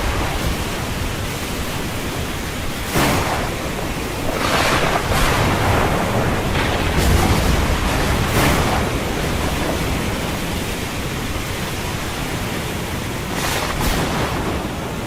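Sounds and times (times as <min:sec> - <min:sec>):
water crashing: 0:00.0 - 0:15.0
waves breaking: 0:00.0 - 0:15.0.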